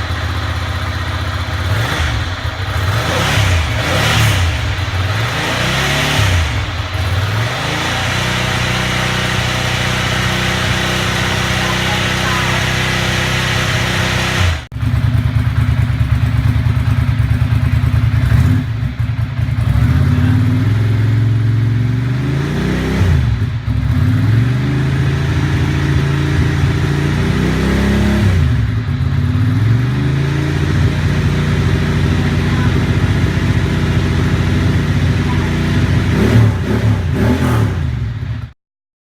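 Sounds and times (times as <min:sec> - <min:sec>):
motorcycle engine revving: 0:00.0 - 0:38.6.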